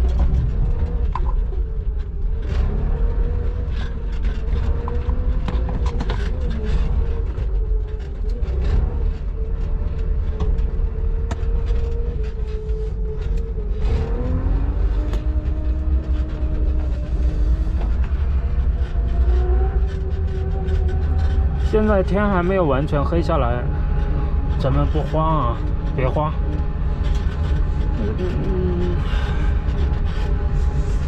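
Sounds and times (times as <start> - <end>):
road noise rumble: 0.0 - 31.0.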